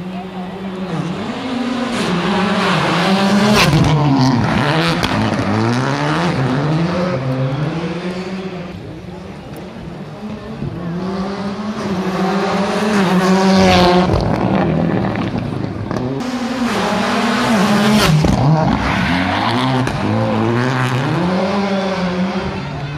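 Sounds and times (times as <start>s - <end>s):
car engine revving hard: 0.6s - 8.8s, 10.3s - 22.9s.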